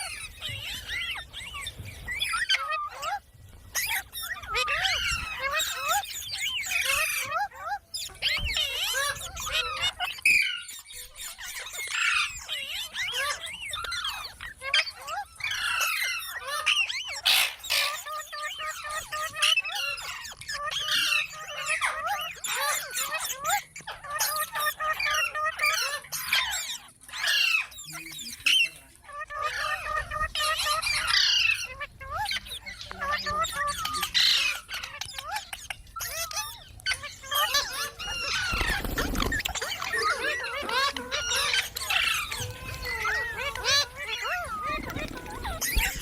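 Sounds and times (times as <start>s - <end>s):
parrot chattering and squawking: 0.0s - 46.0s.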